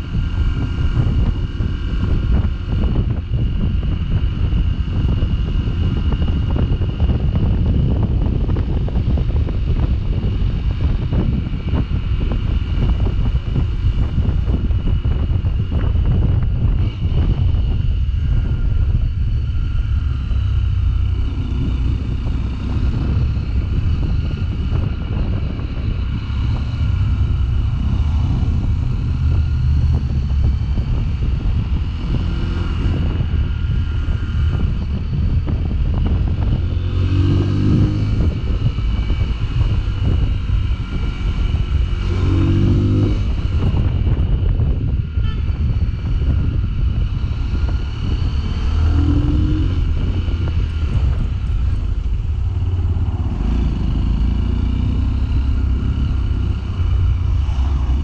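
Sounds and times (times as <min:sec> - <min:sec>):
motorcycle engine running: 0:00.0 - 0:58.0
wind on microphone: 0:00.0 - 0:58.0.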